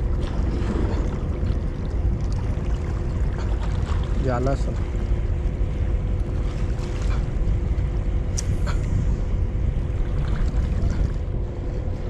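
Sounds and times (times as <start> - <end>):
faint steady hum: 0.0 - 12.0
wind buffeting microphone: 0.0 - 12.0.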